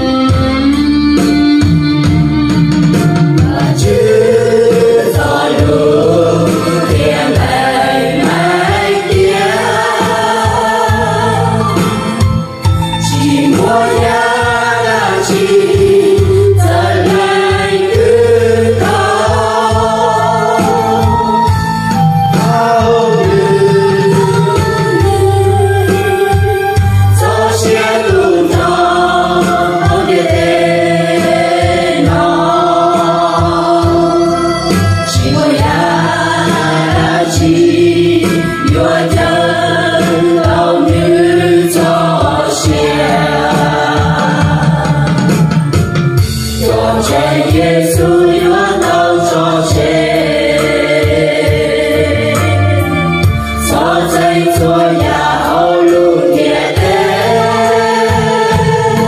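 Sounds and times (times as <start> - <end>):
instrumental backing with steady beat: 0.0 - 59.0
group singing a slow song: 3.0 - 59.0.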